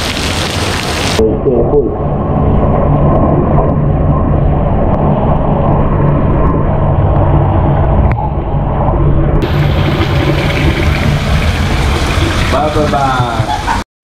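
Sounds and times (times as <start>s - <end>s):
underwater rumble of pouring water: 1.9s - 13.8s.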